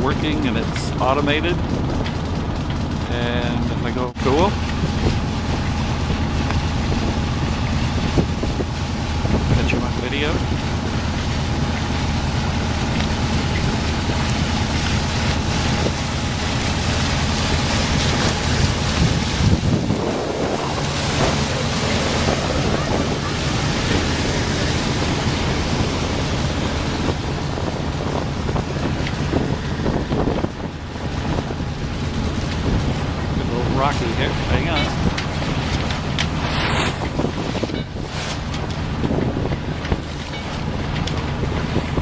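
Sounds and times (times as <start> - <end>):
water rushing along hull: 0.0 - 42.0
wind buffeting microphone: 0.0 - 42.0
low drone: 2.1 - 39.0.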